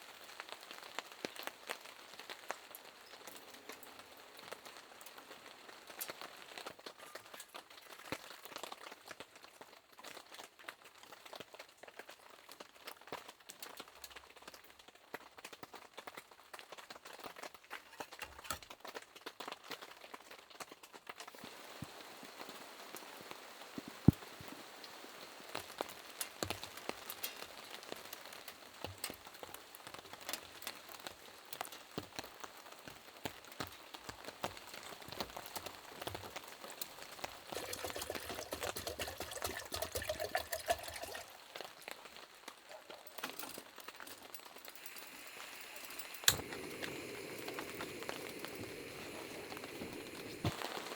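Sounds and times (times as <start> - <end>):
raindrops ticking on a surface: 0.0 - 50.9.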